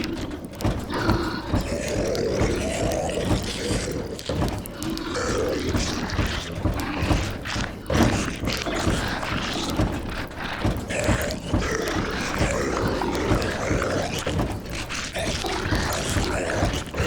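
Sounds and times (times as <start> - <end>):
rain on a roof: 0.0 - 17.0
thumps and knocks: 0.0 - 17.0
zombie voices growling and moaning: 0.0 - 17.0.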